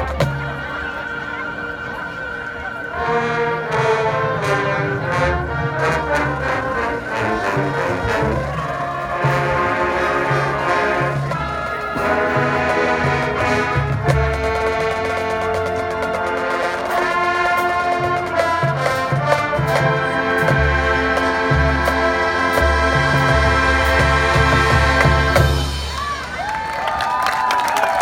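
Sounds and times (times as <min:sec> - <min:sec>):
brass holding full chords: 0:00.0 - 0:26.3
pulsing low brass line: 0:00.0 - 0:26.3.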